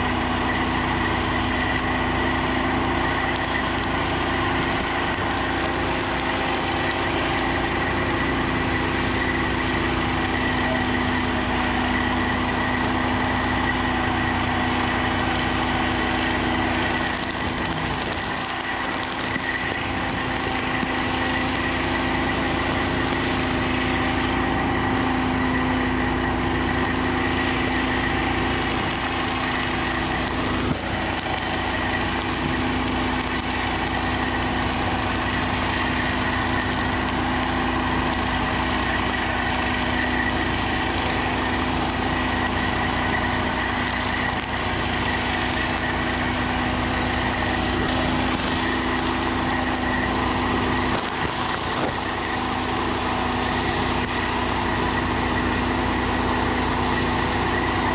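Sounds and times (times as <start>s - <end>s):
fire engine running: 0.0s - 57.9s
high steady whine: 0.0s - 57.9s.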